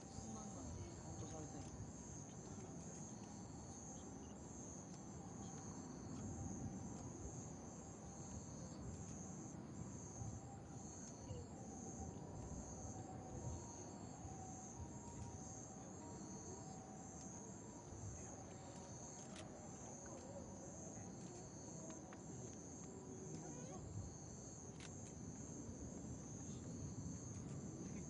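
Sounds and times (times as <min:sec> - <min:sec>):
fainter insect trill: 0:00.0 - 0:28.0
insects trilling: 0:00.0 - 0:28.0.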